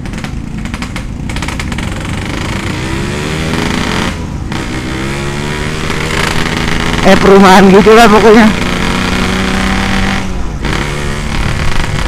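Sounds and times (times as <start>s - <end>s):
two-stroke motorcycle engine accelerating: 0.0s - 12.0s.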